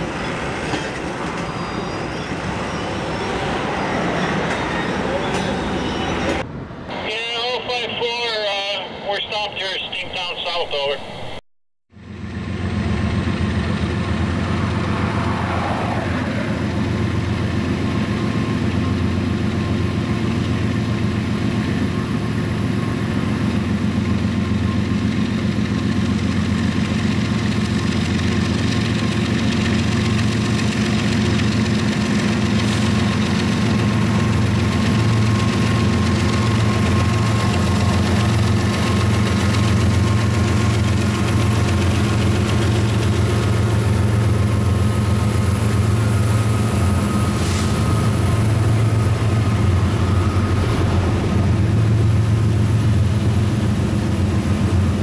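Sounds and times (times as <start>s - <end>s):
locomotive diesel engines running: 0.0s - 10.9s, 12.0s - 55.0s.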